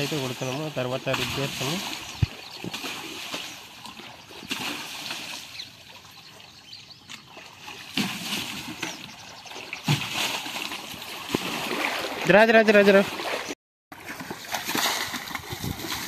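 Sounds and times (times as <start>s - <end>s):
water splashing against machine: 0.0s - 5.7s, 7.6s - 16.0s.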